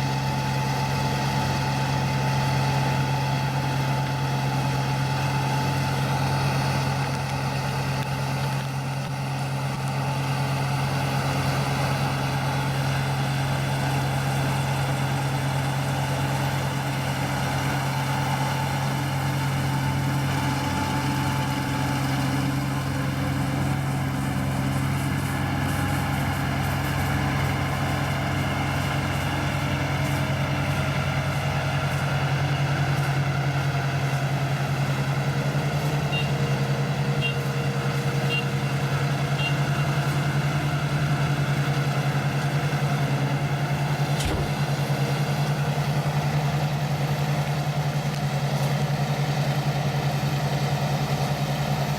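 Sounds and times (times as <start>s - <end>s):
harvester engine drone: 0.0s - 51.9s.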